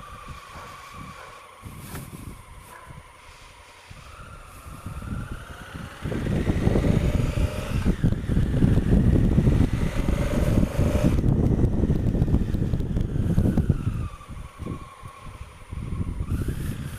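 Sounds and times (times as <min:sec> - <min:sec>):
motorcycle engine pulling away: 0:00.0 - 0:16.9
wind buffeting microphone: 0:00.0 - 0:16.9.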